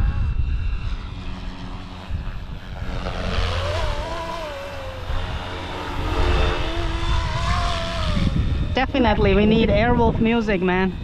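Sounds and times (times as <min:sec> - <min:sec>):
rc helicopter rotor whine: 0:00.0 - 0:11.0
wind on microphone: 0:00.0 - 0:11.0.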